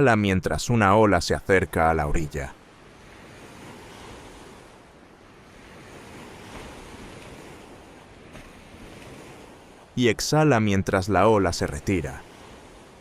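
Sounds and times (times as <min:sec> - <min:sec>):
ocean waves washing onto shore: 0:00.0 - 0:13.0.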